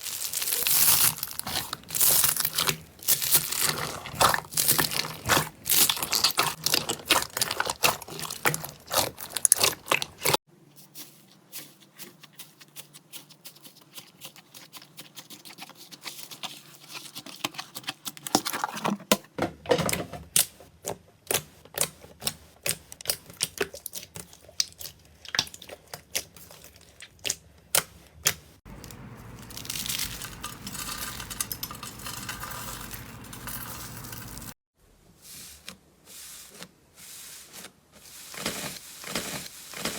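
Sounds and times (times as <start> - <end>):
slime squishing: 0.0 - 18.7, 21.3 - 34.6, 35.5 - 39.9.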